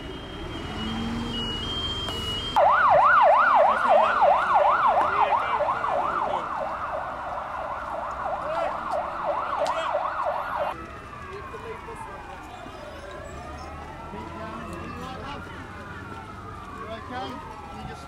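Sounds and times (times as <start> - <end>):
emergency siren yelping: 0.0 - 18.0.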